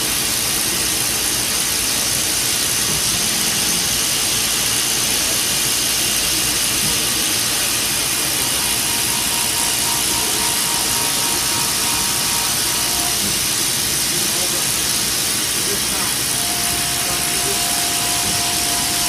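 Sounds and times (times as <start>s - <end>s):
milling machine cutting: 2.9s - 19.0s.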